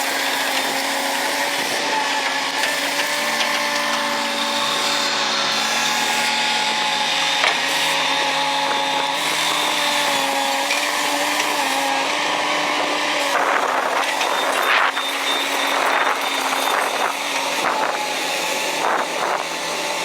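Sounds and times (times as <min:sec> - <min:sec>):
heavy diesel machines working: 0:00.0 - 0:20.0.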